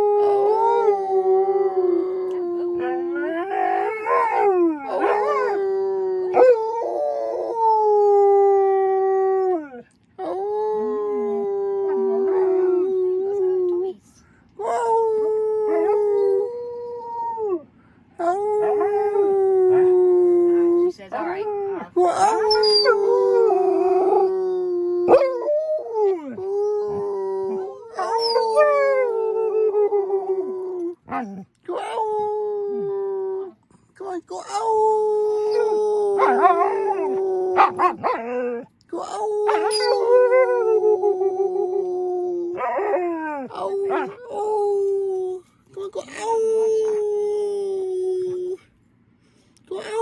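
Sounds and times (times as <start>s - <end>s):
wolfdog howling: 0.0s - 13.4s, 14.6s - 17.6s, 18.2s - 33.5s, 35.2s - 45.1s.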